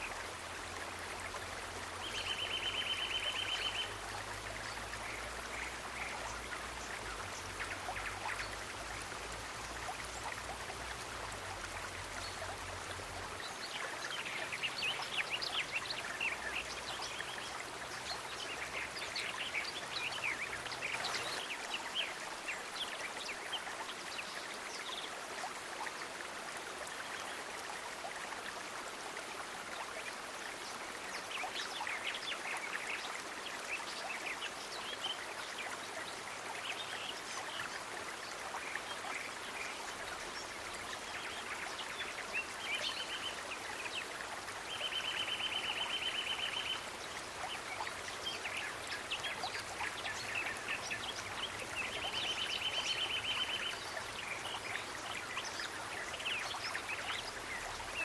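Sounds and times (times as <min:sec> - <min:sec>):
flowing stream: 0:00.0 - 0:58.0.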